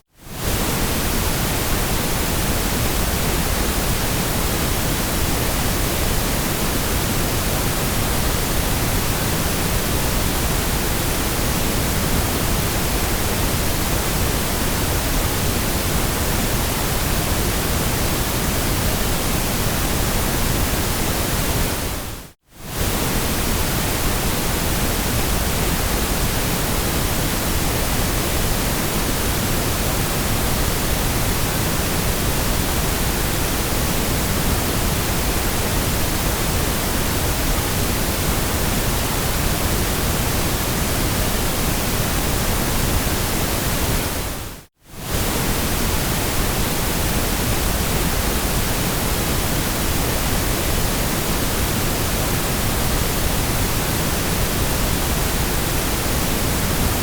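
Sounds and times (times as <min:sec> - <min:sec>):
electronic white noise hiss: 0:00.2 - 0:57.0.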